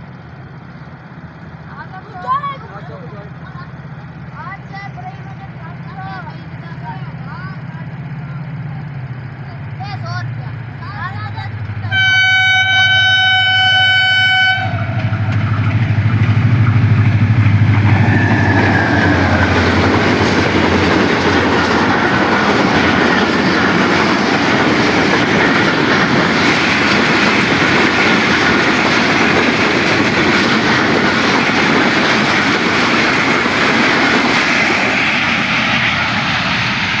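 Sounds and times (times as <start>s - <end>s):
locomotive engine hum: 0.0s - 37.0s
train wheels rumbling on rails: 0.0s - 37.0s.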